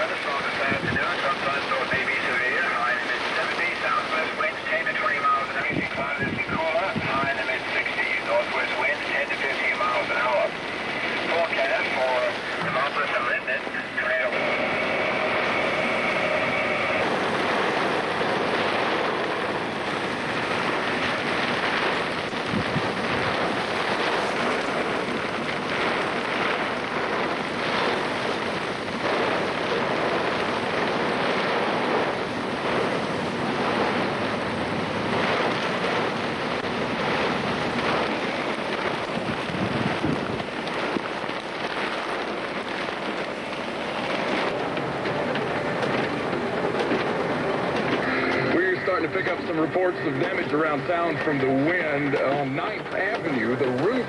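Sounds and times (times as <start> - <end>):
heavy rain: 0.0 - 54.0
wind buffeting microphone: 0.0 - 54.0.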